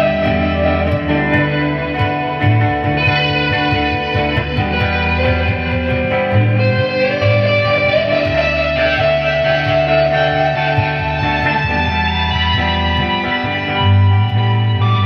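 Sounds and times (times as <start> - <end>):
electric guitar: 0.0 - 15.0
low bass line: 0.0 - 15.0.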